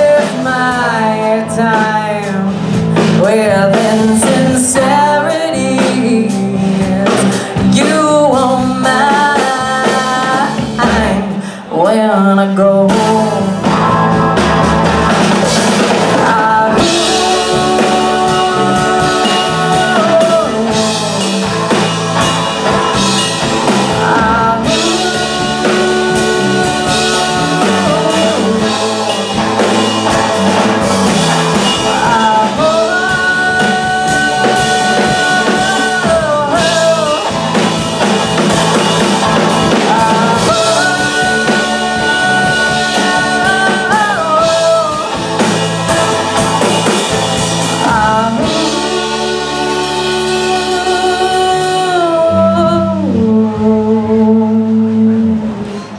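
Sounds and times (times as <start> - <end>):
drum kit with cymbals: 0.0 - 12.0, 12.7 - 52.5
electric bass: 0.0 - 55.9
electric guitar: 0.0 - 55.9
woman singing lead: 0.0 - 55.9.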